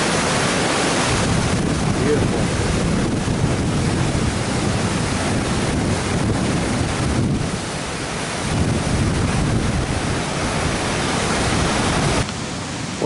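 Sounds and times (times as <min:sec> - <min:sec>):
waterfall rushing over rock: 0:00.0 - 0:13.0
wind buffeting microphone: 0:00.0 - 0:13.0.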